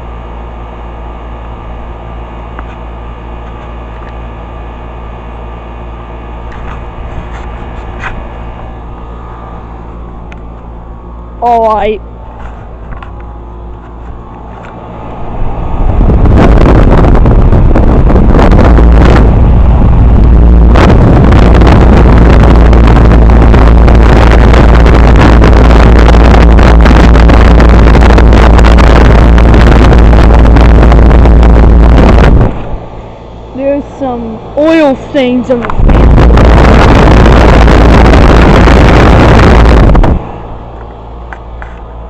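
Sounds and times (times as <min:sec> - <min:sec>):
fan air rushing over microphone: 0:00.0 - 0:42.0.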